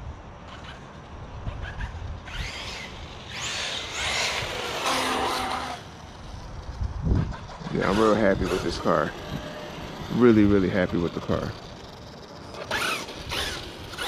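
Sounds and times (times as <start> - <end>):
electric motor whining: 1.6 - 14.0.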